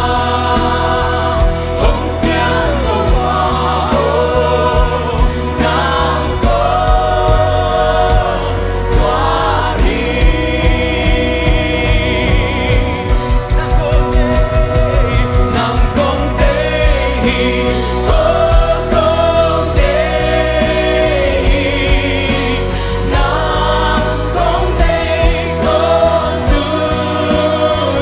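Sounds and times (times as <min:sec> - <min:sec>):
acoustic guitar: 0:00.0 - 0:28.0
bass guitar: 0:00.0 - 0:28.0
drums: 0:00.0 - 0:28.0
mixed voices singing: 0:00.0 - 0:28.0
piano: 0:00.0 - 0:28.0.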